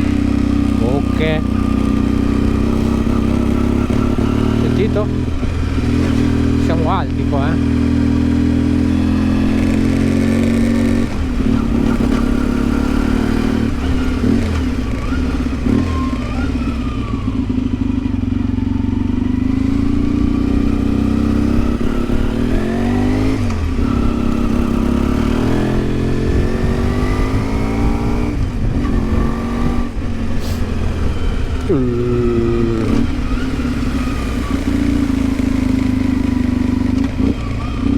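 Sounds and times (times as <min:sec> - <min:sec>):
motorcycle engine revving through gears: 0:00.0 - 0:37.9.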